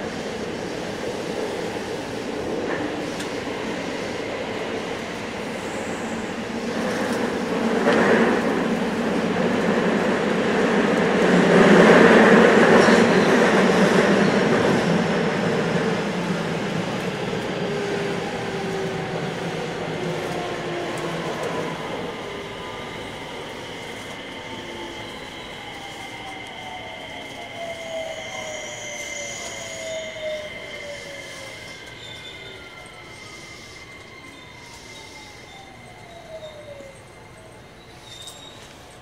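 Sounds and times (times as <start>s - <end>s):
electric train running rumble: 0.0s - 39.0s.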